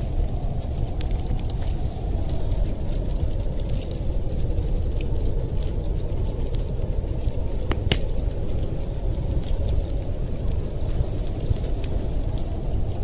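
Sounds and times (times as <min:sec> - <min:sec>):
snowstorm wind rumble: 0:00.0 - 0:13.0
wood fire crackling: 0:00.0 - 0:13.0.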